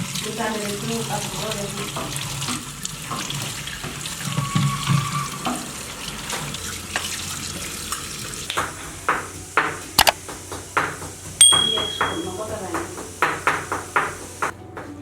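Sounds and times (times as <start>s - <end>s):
water running and splashing: 0.0s - 14.5s.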